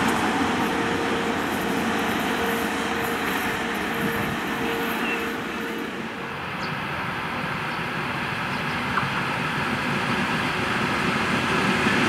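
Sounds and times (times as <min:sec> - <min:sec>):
electric locomotive rumble: 0:00.0 - 0:12.0
locomotive hum: 0:00.0 - 0:12.0.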